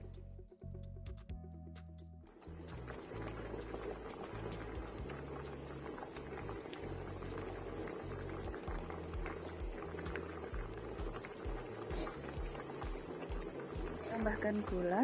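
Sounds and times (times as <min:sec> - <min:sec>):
soup boiling and bubbling: 0:02.3 - 0:15.0.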